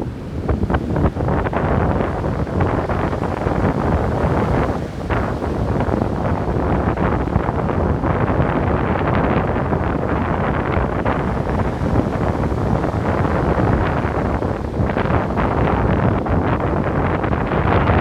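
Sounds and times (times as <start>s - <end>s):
surf washing on a beach: 0.0s - 18.0s.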